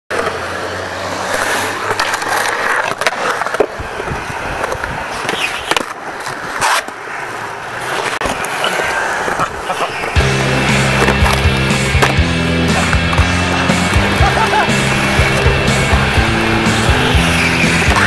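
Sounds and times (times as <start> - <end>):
skateboard wheels rumbling: 0.1 - 18.0.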